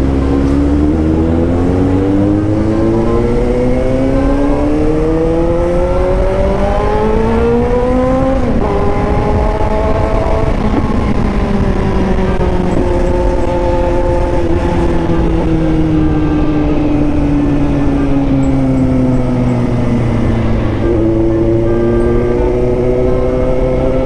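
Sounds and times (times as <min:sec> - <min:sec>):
low wind rumble: 0:00.0 - 0:24.0
motorcycle engine revving: 0:00.0 - 0:24.0.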